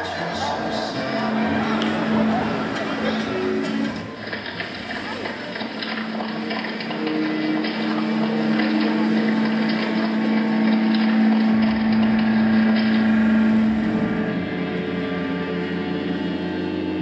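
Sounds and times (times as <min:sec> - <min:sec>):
ambient music drone: 0:00.0 - 0:17.0.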